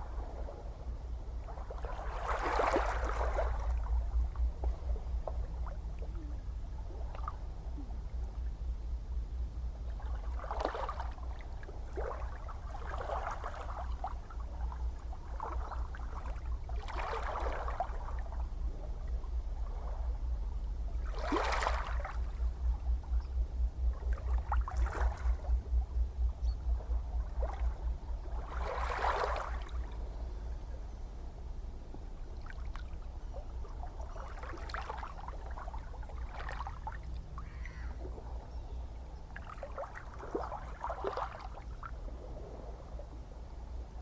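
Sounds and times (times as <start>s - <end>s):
small waves lapping and splashing: 0.0s - 8.5s, 9.8s - 23.2s, 23.9s - 25.6s, 26.7s - 30.8s, 31.8s - 44.0s.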